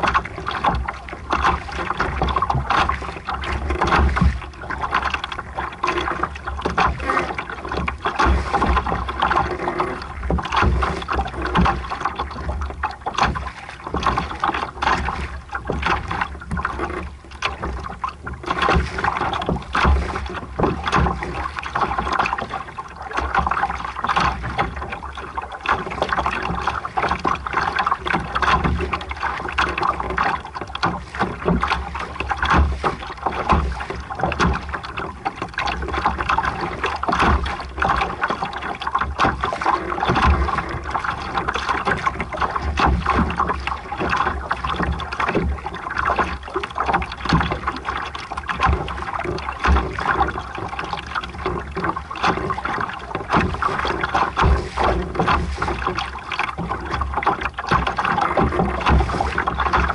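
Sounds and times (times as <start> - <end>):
short splashes: 0.0 - 59.9
water rushing along a hull: 0.0 - 59.9.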